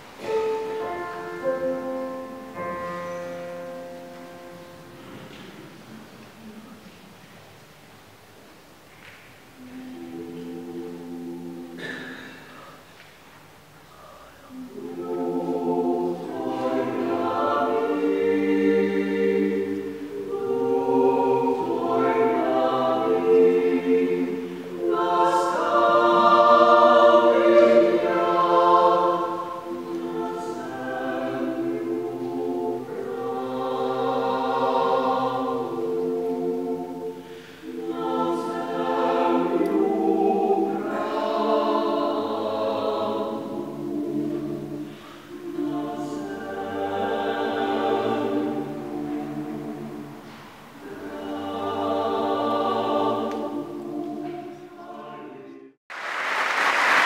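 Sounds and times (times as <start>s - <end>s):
mixed choir singing a cappella: 0.0s - 6.8s, 9.6s - 12.9s, 14.0s - 57.0s.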